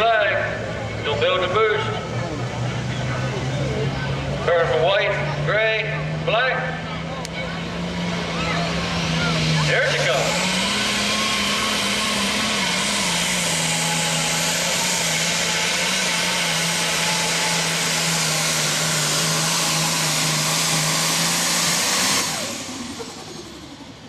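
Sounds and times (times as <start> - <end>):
diesel tractor engine howling: 0.0 - 24.0.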